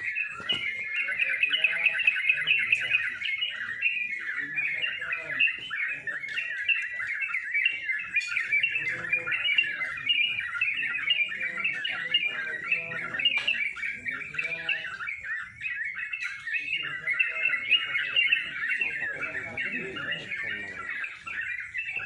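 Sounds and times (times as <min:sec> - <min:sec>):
birds singing in chorus: 0:00.0 - 0:22.0
faint human voices: 0:00.0 - 0:22.0.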